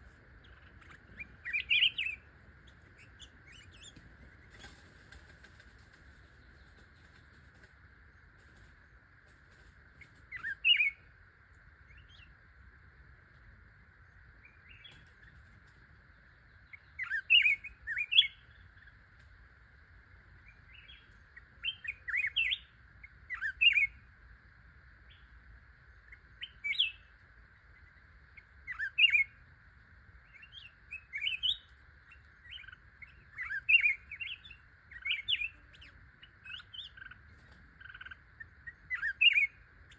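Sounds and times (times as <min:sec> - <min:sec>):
songbirds chirping: 0:00.0 - 0:39.9
steady high-pitched hum: 0:00.0 - 0:39.9.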